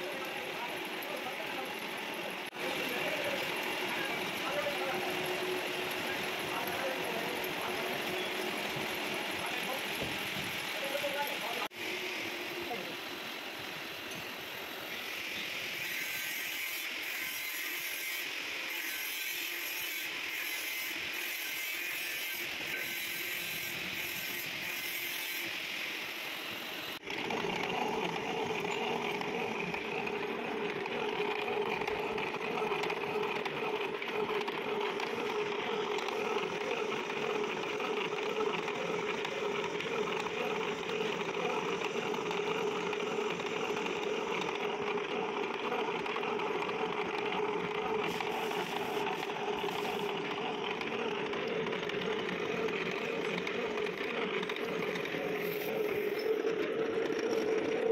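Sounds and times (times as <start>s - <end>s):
milling machine cutting metal: 0.0s - 57.9s.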